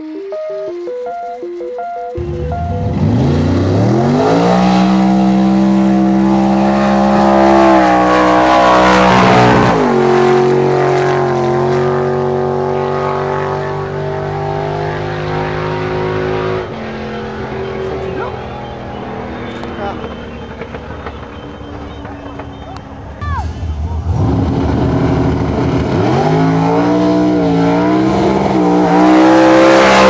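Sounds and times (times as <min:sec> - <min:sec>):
drag car engine at full throttle: 0:02.2 - 0:30.0.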